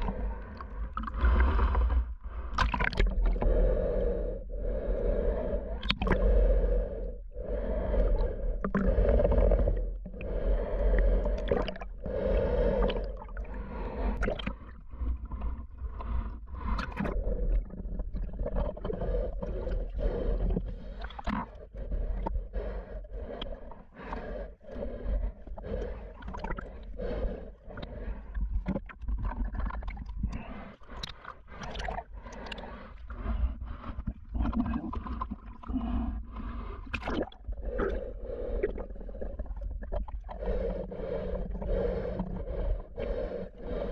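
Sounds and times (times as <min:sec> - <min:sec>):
underwater swishing and gurgling: 0:00.0 - 0:43.9.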